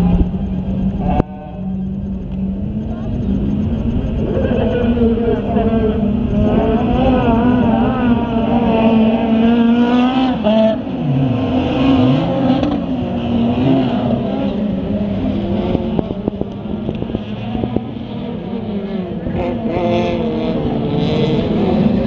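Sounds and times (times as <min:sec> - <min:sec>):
race car engines at high revs: 0:00.0 - 0:22.0.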